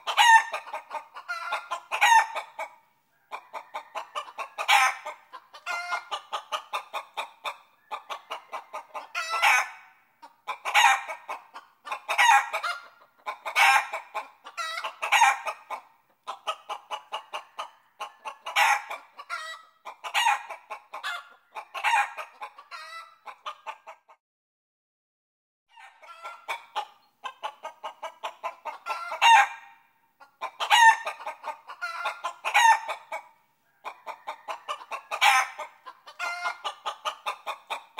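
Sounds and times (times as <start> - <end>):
chickens clucking: 0.0 - 24.2, 25.7 - 37.9.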